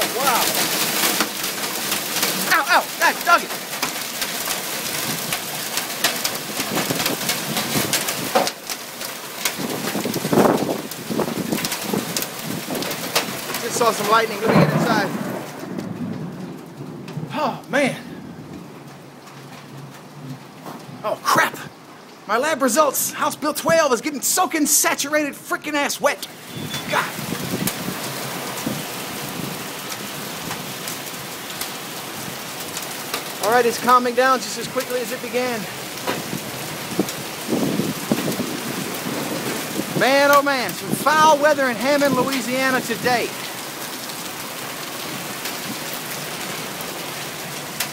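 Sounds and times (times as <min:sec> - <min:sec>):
hail and heavy rain pelting: 0:00.0 - 0:47.9.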